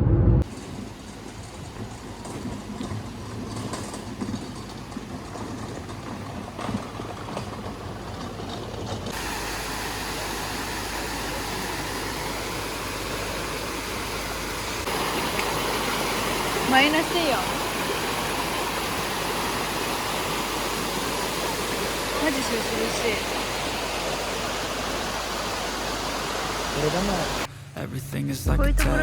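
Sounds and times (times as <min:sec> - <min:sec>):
low uneven rumble: 0:00.0 - 0:29.0
flowing water rushing: 0:00.4 - 0:27.5.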